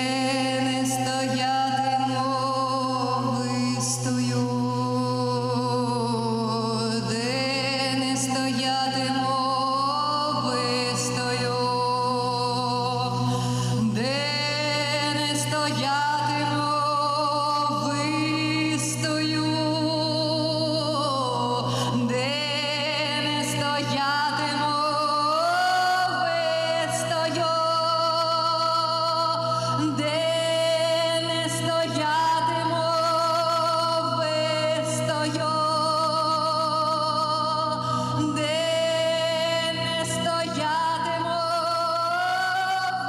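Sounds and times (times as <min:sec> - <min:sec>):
song with wavering sung notes: 0:00.0 - 0:43.0.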